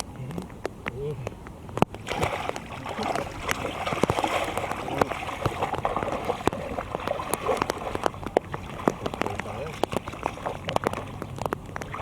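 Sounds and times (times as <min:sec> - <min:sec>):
water dripping: 0:00.0 - 0:12.0
shallow water splashing: 0:01.7 - 0:12.0.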